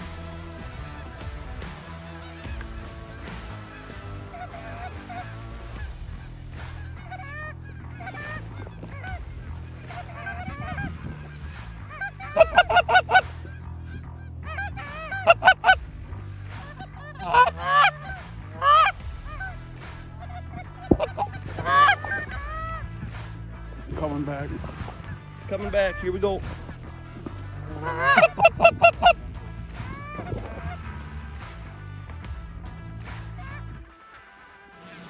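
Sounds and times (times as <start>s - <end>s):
geese honking: 0.0s - 34.2s, 34.8s - 35.0s
quiet background music: 0.0s - 35.0s.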